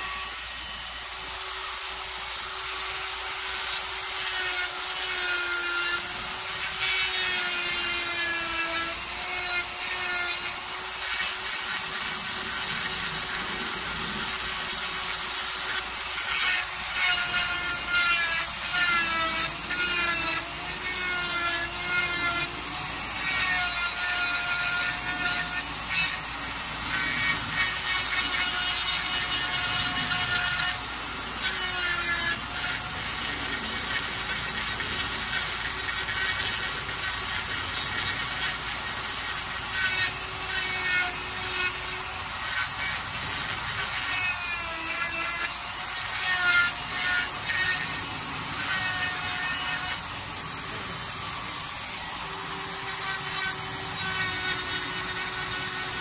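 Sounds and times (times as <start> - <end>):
burr rasping grinding wood: 0.0 - 56.0
rotary tool whine: 0.0 - 56.0.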